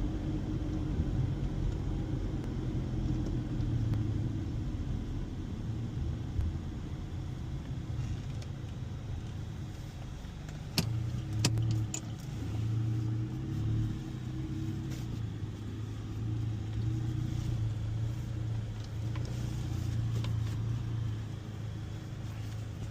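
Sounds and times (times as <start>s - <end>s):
car engine humming: 0.0s - 22.9s.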